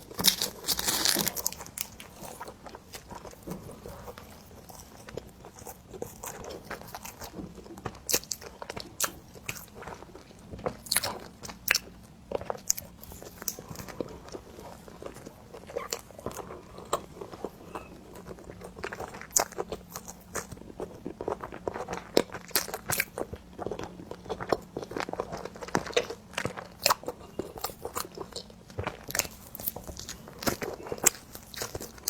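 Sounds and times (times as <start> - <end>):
person chewing bread: 0.0 - 32.0.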